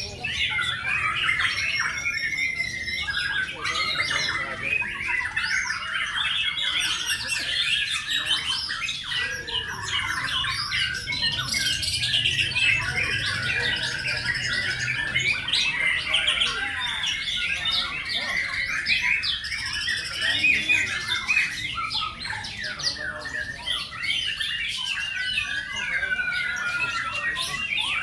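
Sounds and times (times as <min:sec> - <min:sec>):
many birds singing: 0:00.0 - 0:28.0.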